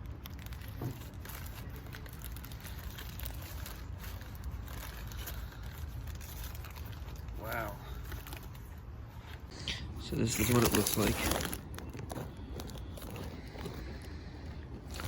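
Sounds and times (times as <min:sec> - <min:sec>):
paper wrapper crinkling: 0:00.0 - 0:09.4, 0:10.1 - 0:15.0
steady low hum: 0:00.0 - 0:15.0.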